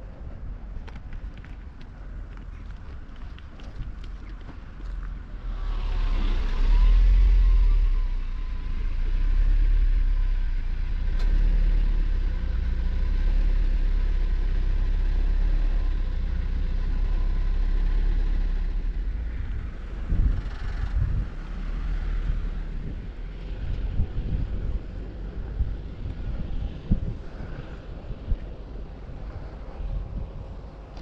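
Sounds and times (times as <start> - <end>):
wind buffeting microphone: 0.0 - 11.0, 13.8 - 31.0.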